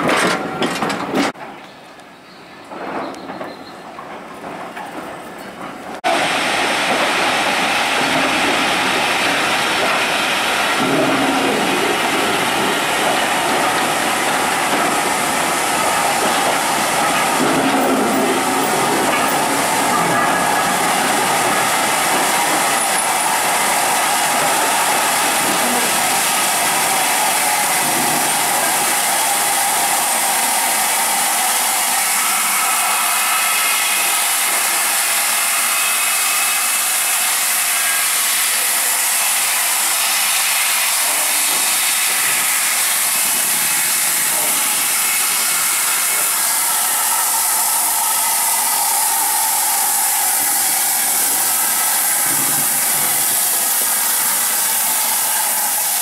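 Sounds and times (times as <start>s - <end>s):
low train rumbling: 0.0s - 56.0s
train hissing: 6.0s - 56.0s.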